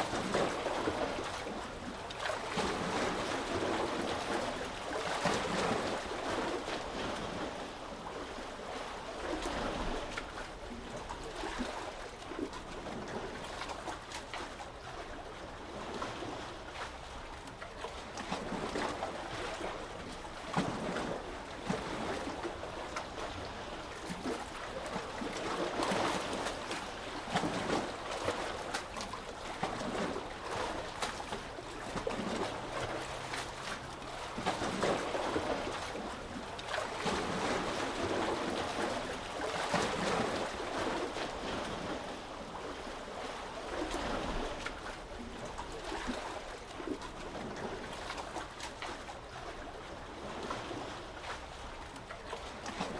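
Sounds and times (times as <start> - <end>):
small sea waves lapping: 0.0 - 52.9.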